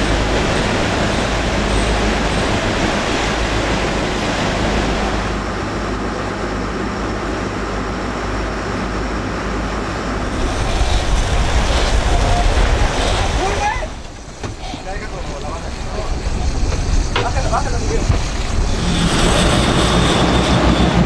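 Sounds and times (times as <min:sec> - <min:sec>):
boat engine droning: 0:00.0 - 0:21.0
rushing water: 0:00.0 - 0:21.0
wind: 0:00.0 - 0:21.0.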